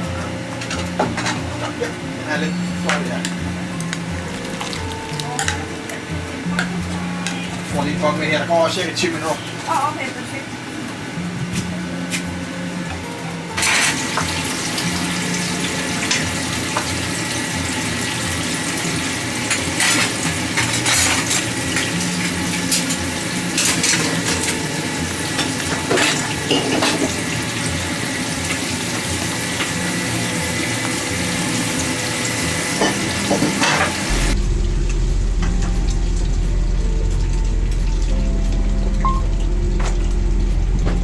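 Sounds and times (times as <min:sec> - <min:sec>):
food sizzling in a pan: 0:00.0 - 0:34.5
steady low hum: 0:00.0 - 0:41.0.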